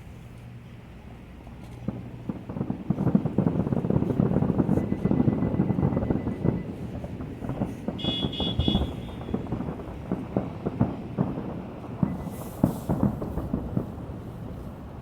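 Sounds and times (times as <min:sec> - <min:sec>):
fireworks booming: 0:01.2 - 0:15.0.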